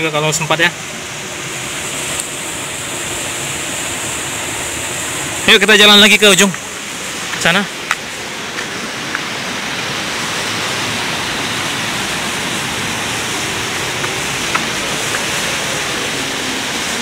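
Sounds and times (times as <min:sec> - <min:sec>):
water pouring over rocks: 0:01.5 - 0:17.0.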